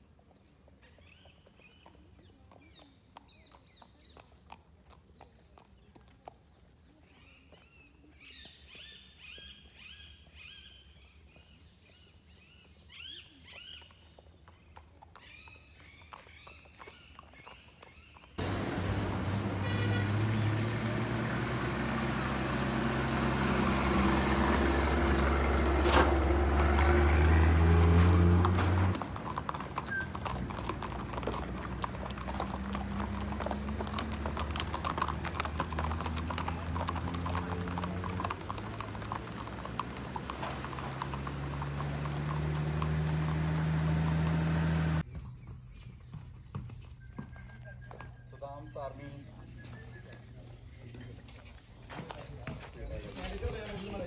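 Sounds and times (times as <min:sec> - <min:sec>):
horse hooves clip-clopping on road: 0:00.0 - 0:12.8, 0:13.5 - 0:54.0.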